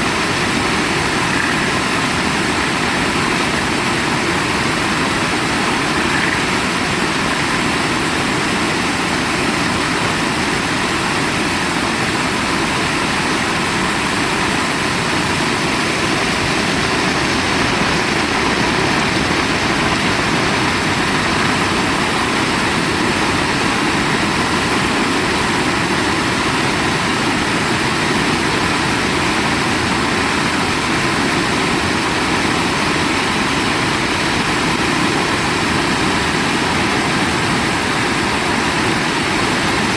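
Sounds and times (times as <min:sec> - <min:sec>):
heavy rain falling: 0:00.1 - 0:35.0.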